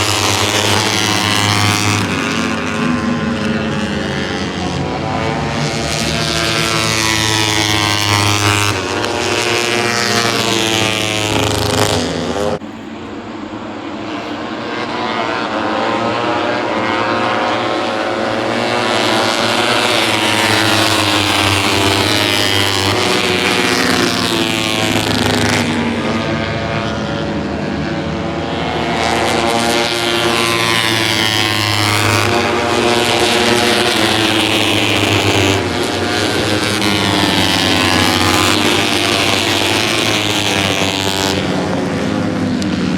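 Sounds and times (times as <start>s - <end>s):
racing motorcycle engines at high revs: 0.0s - 42.9s.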